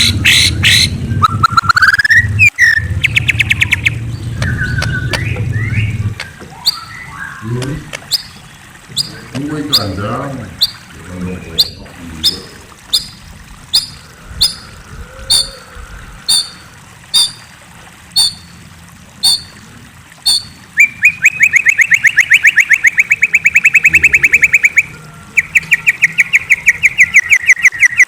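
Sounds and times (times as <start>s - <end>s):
songbird chipping and trilling: 0.0s - 14.7s, 15.3s - 15.6s, 16.3s - 16.6s, 17.2s - 17.4s, 18.2s - 18.5s, 20.3s - 28.0s.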